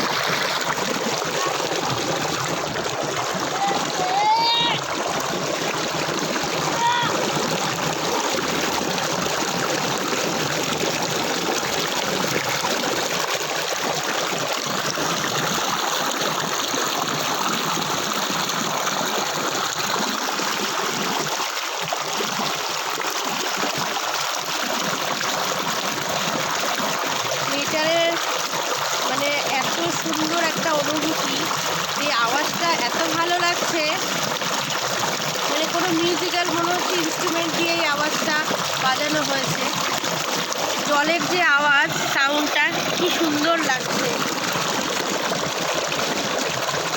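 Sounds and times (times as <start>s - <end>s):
water splashing over rocks: 0.0s - 46.9s.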